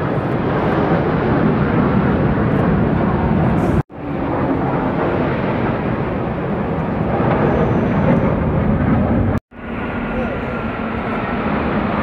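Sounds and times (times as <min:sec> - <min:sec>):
military aircraft engine rumble: 0:00.0 - 0:12.0.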